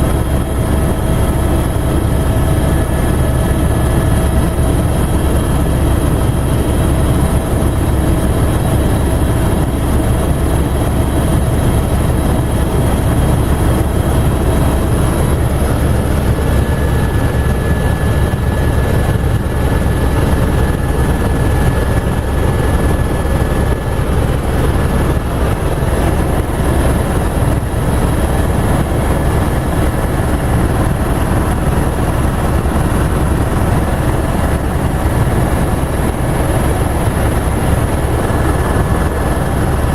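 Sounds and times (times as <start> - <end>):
helicopter engine and rotor rumble: 0.0 - 39.9.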